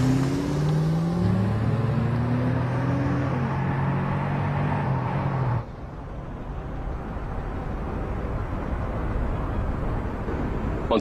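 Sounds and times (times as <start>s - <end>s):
road noise inside car: 0.0s - 11.0s.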